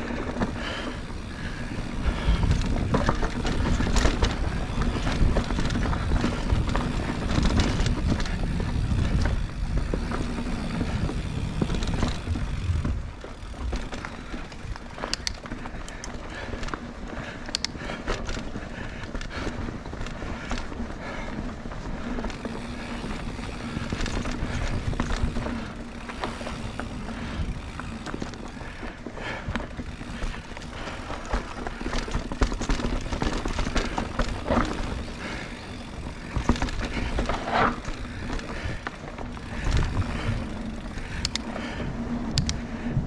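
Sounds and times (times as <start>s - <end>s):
bike tyres rumbling over rough trail: 0.0s - 43.0s.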